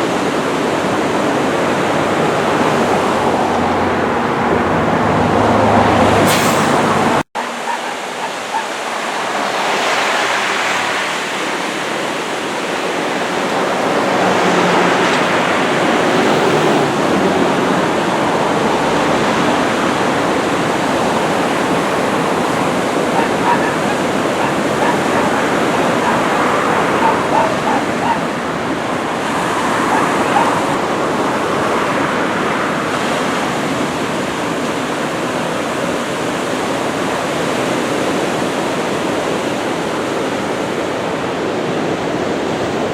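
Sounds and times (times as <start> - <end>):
ocean surf breaking: 0.0 - 42.9.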